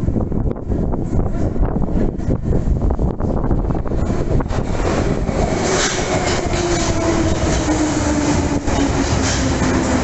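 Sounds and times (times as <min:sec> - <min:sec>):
train wheel and rail noise: 0:00.0 - 0:10.0.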